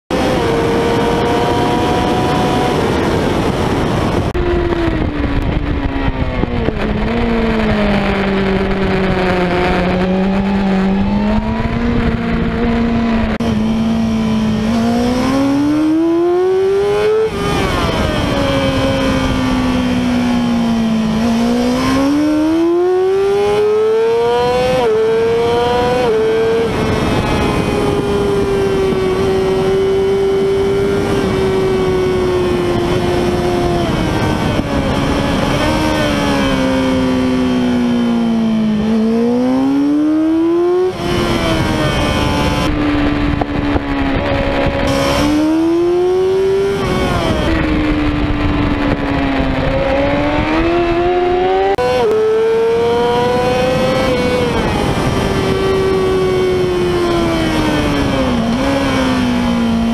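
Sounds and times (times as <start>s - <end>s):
motorcycle engine revving: 0.1s - 59.9s
wind rush: 0.1s - 59.9s.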